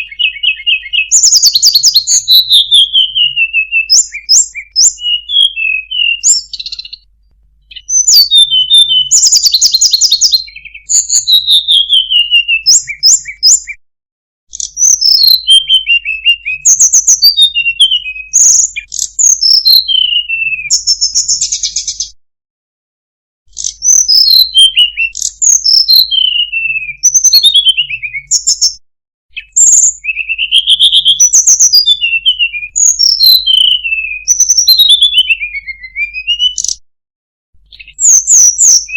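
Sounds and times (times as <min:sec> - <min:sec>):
bird singing whistled notes: 0:00.0 - 0:13.8, 0:14.5 - 0:22.2, 0:23.5 - 0:36.8, 0:37.7 - 0:38.9.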